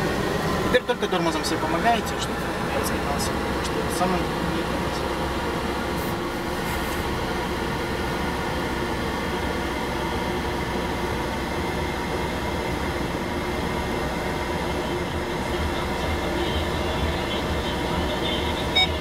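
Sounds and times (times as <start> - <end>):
car cabin hum and rumble: 0.0 - 19.0.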